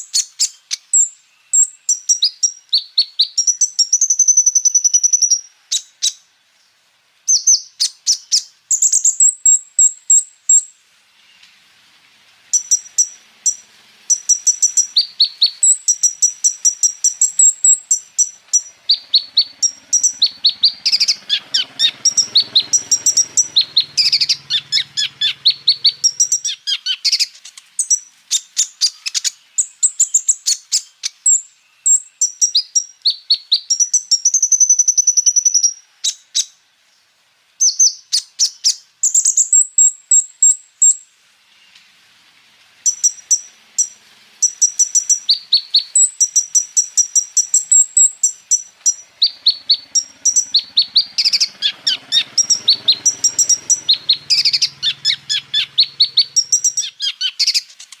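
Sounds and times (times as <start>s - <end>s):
sunbird singing rapid chirps: 0.0s - 11.7s, 12.4s - 42.0s, 42.8s - 58.0s.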